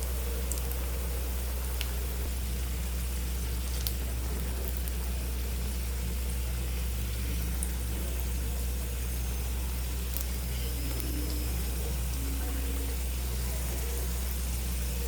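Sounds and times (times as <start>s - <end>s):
constant low hum: 0.0s - 15.0s
oil sizzling: 0.1s - 15.0s.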